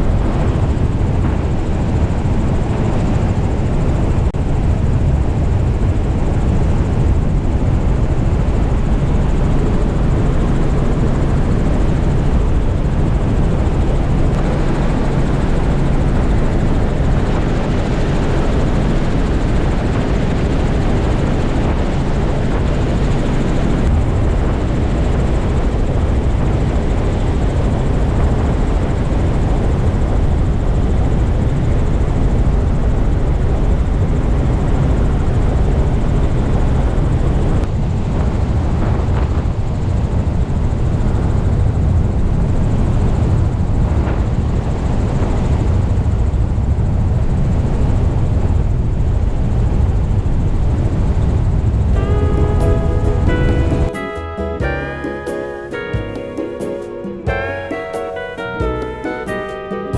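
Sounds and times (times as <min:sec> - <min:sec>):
helicopter engine and rotor: 0:00.0 - 0:53.9.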